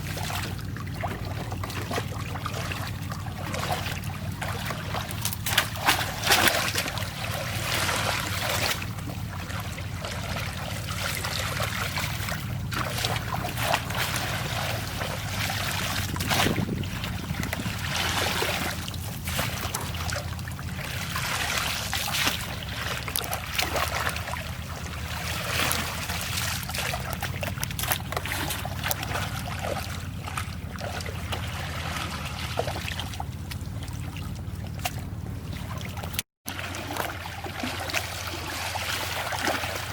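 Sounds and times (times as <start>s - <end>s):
steady low hum: 0.0s - 39.9s
water splashing and trickling: 0.0s - 39.9s.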